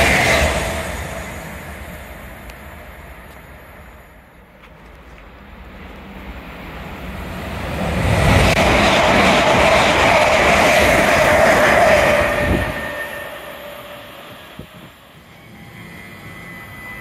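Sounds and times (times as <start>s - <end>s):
second train rumbling: 0.0s - 17.0s
train rumbling past: 0.0s - 17.0s.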